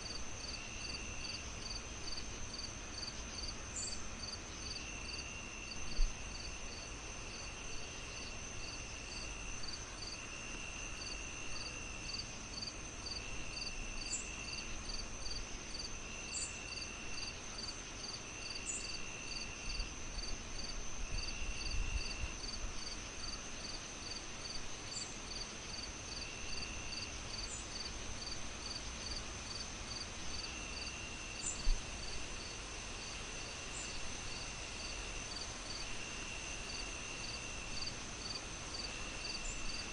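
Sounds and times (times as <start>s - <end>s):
cricket trilling: 0.0s - 32.5s, 33.4s - 39.9s
crickets chirping: 0.0s - 39.9s
low hiss: 0.0s - 39.9s.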